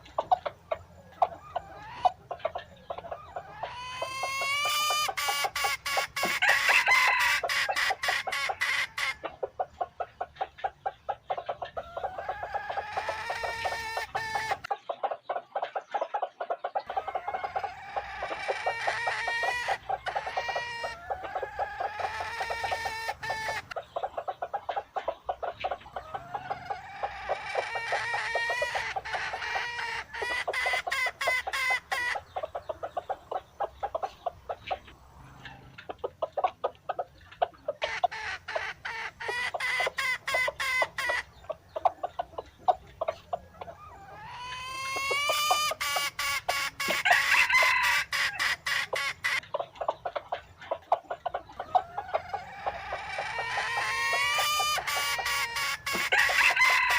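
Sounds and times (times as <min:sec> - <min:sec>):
chickens clucking: 0:00.0 - 0:56.9
long drawn-out chicken calls: 0:00.0 - 0:56.9.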